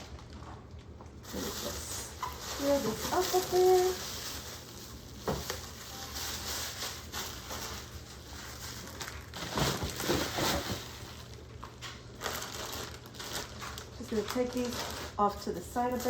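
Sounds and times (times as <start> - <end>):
packaging rustling: 0.0 - 16.0.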